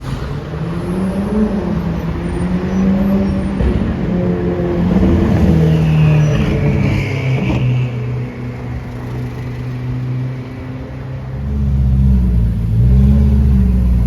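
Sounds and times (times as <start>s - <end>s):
sports car engine exhaust: 0.0s - 14.0s.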